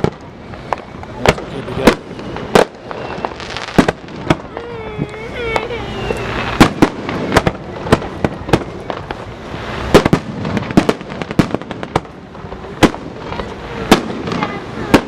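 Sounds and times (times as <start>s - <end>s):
crackling hiss: 0.0s - 15.0s
fireworks bangs and pops: 0.0s - 15.0s.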